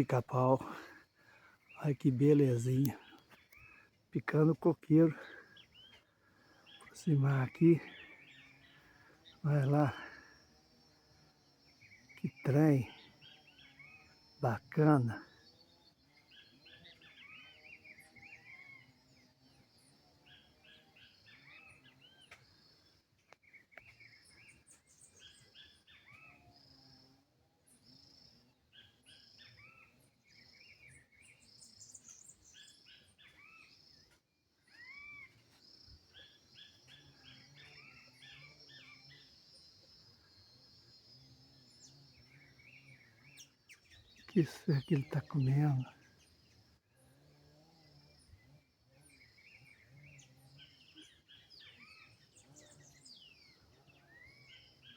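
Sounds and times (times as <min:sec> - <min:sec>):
faint bird chirping: 0:00.0 - 0:54.9.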